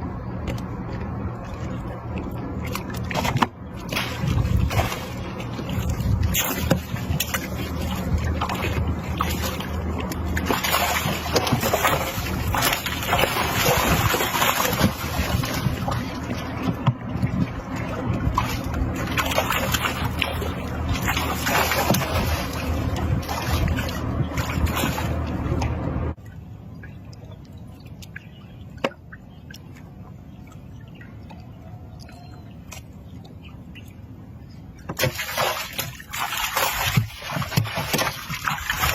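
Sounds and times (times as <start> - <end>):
boat engine humming: 0.0 - 38.9
rushing water and wind: 0.0 - 38.9.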